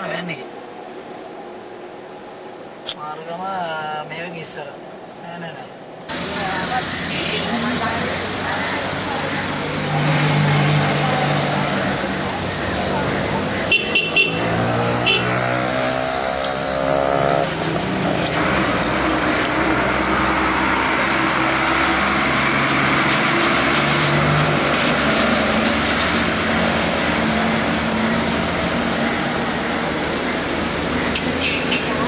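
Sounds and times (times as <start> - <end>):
road noise: 0.0 - 32.0
vehicle engines running: 6.1 - 32.0.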